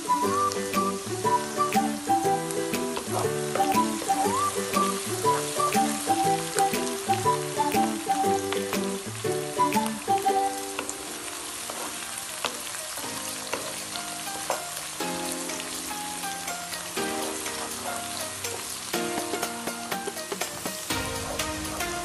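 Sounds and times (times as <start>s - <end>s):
onions sizzling in oil: 0.0s - 22.0s
soft background music: 0.0s - 22.0s.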